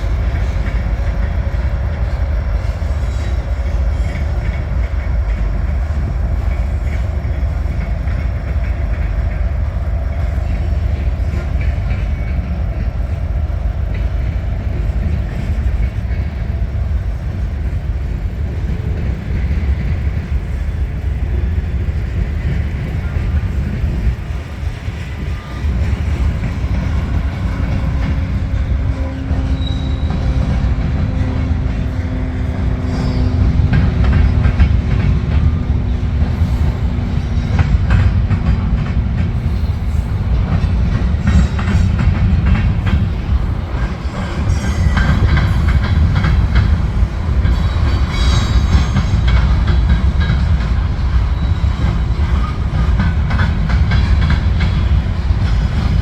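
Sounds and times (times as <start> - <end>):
train rumbling past: 0.0 - 56.0
wheels clicking over rail joints: 0.0 - 56.0.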